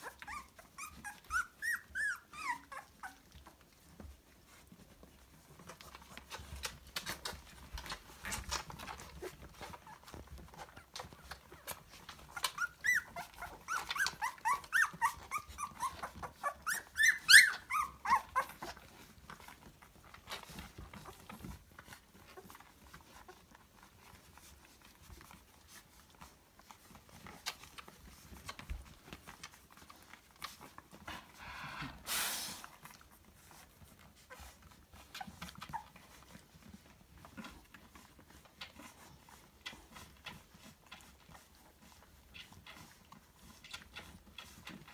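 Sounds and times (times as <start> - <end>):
puppies whining and yelping: 0.0 - 44.9.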